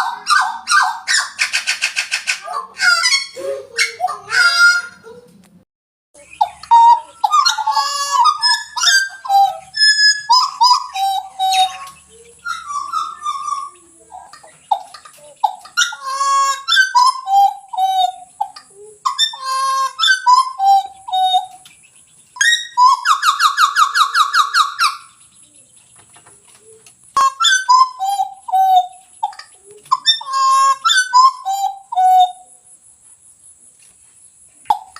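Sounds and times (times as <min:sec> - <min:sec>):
butcherbird whistled song: 0:00.0 - 0:05.0, 0:06.2 - 0:25.7, 0:26.6 - 0:32.6
fast bird trill: 0:00.0 - 0:05.0, 0:06.2 - 0:25.9, 0:27.2 - 0:32.5.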